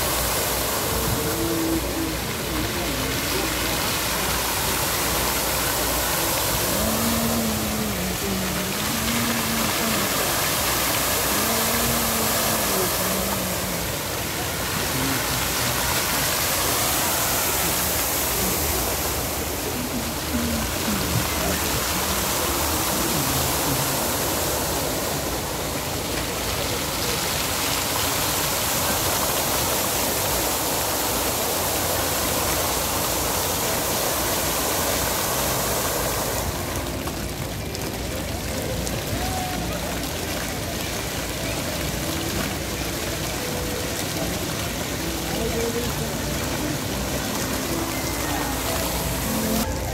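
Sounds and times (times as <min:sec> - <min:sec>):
fountain jets splashing: 0:00.0 - 0:49.9.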